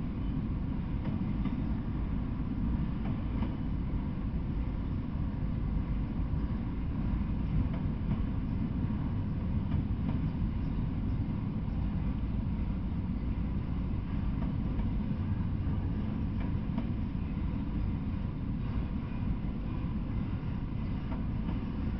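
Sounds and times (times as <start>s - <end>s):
freight train wheels rumbling on rail: 0.0s - 21.9s.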